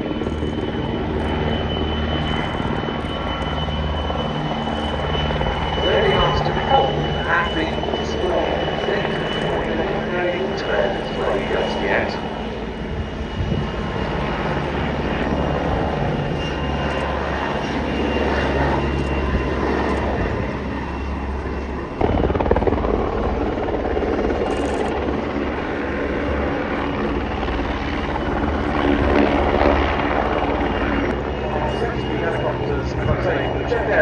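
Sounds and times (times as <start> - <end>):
helicopter rotor and engines: 0.0 - 34.0.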